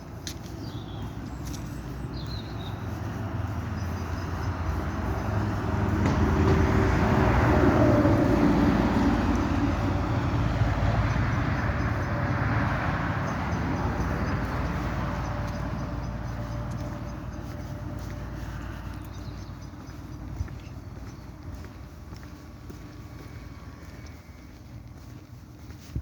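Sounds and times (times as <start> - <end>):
vehicle passing by: 0.0 - 26.0.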